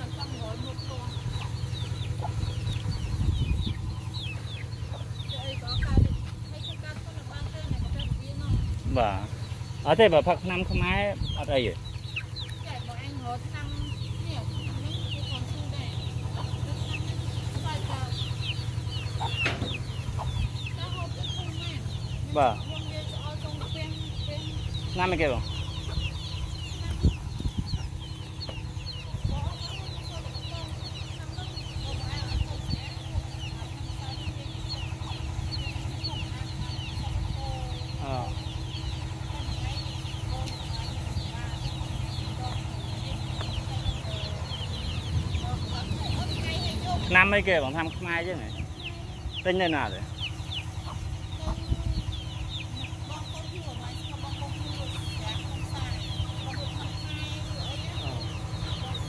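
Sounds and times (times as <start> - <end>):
chicks peeping: 0.0 - 59.0
low steady rumble: 0.0 - 59.0
steady low hum: 0.0 - 59.0.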